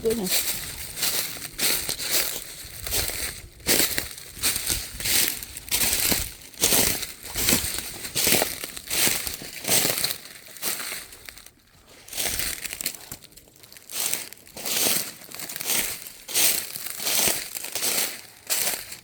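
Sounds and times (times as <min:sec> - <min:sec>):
footsteps crunching dry leaves: 0:00.0 - 0:19.0.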